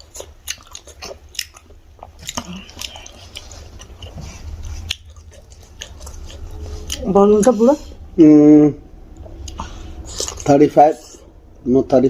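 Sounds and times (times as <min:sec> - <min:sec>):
chewing with mouth clicks: 0:00.0 - 0:07.6, 0:09.1 - 0:11.2.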